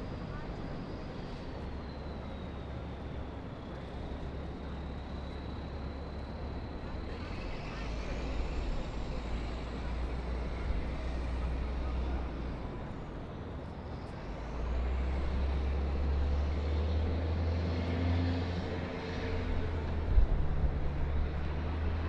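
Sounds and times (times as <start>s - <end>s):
city traffic engine rumble: 0.0s - 22.0s.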